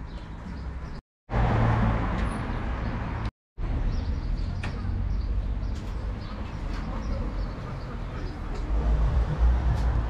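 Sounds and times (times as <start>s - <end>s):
steady vehicle rumble: 0.0s - 10.0s.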